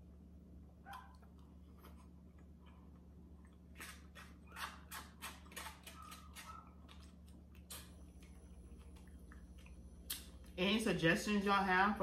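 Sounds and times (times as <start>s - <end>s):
low steady hum: 0.0s - 12.0s
chewing: 0.9s - 10.6s.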